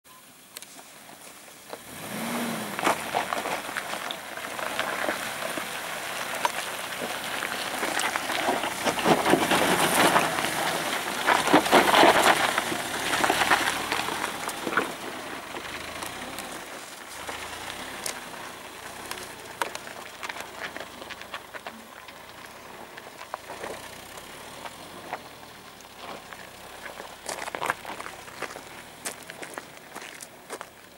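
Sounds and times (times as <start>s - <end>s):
vehicle engine running: 0.3s - 30.9s
tyres crunching over gravel: 0.6s - 30.9s.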